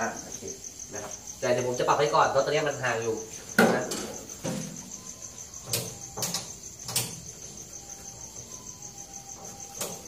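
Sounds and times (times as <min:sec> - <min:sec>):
high insect trill: 0:00.0 - 0:10.0.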